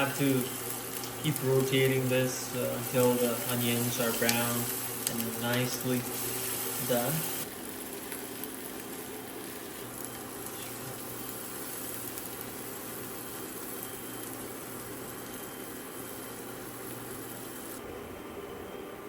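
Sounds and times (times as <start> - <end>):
onions sizzling in oil: 0.0 - 17.8.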